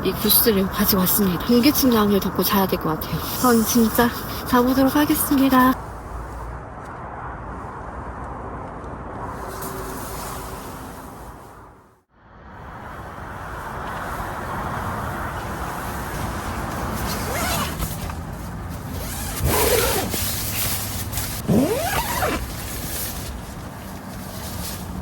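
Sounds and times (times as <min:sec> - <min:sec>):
wind blowing: 0:00.0 - 0:25.0.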